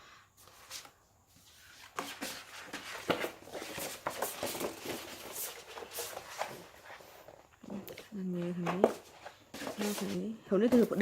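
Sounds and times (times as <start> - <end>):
paper packaging rustling: 1.6 - 11.0.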